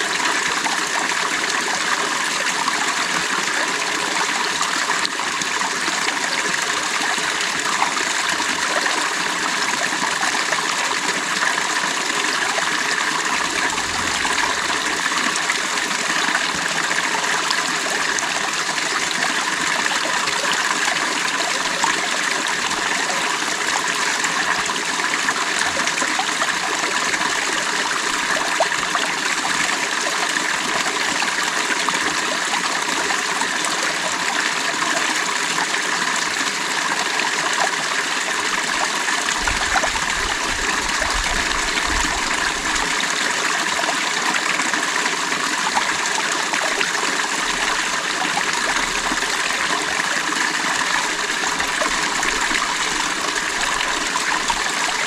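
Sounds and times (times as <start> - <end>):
creek water running over stones: 0.0 - 55.0.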